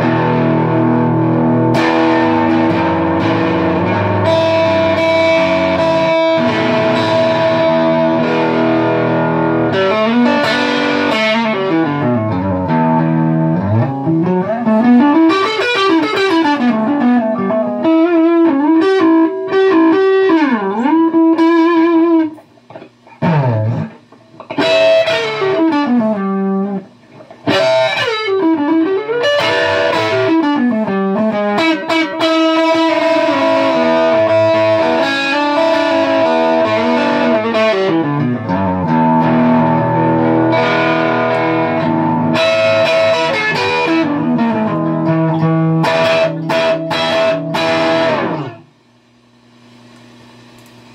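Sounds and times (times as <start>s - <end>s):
distorted electric guitar runs: 0.0s - 50.9s.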